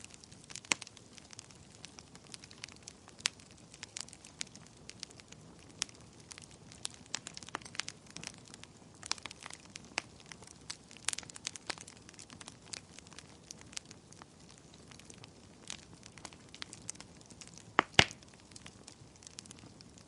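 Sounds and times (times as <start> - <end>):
fire crackling and popping: 0.0 - 20.0
low steady hiss: 0.0 - 20.0.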